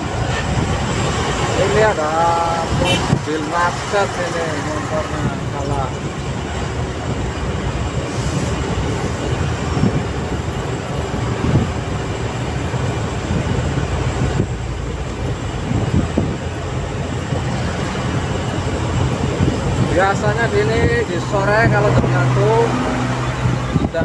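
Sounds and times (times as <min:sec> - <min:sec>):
truck engine and tyres droning: 0:00.0 - 0:24.0.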